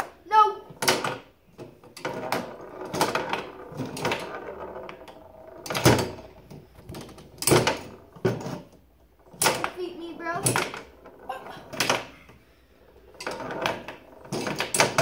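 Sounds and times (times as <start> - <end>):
foosball rods clacking: 0.0 - 15.0.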